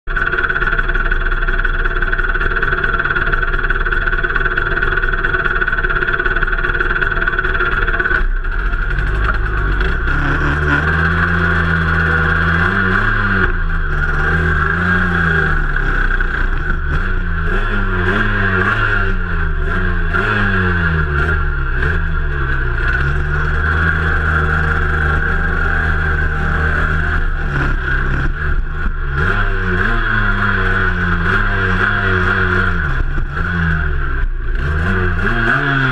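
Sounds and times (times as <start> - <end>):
motorcycle engine revving: 0.1 - 35.9.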